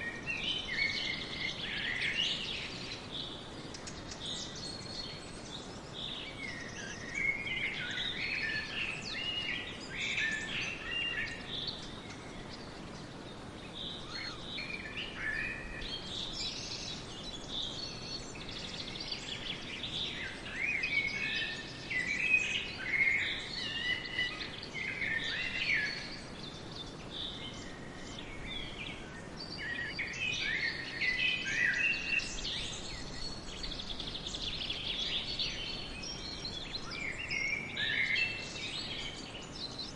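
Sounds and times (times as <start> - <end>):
birds singing and chirping: 0.0 - 39.9
forest background hiss: 0.0 - 39.9.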